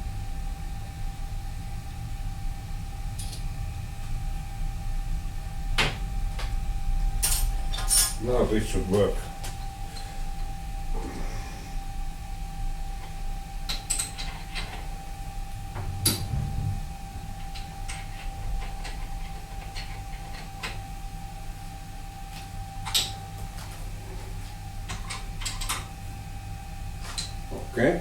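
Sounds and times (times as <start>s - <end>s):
metal lathe motor hum and whine: 0.0s - 28.0s.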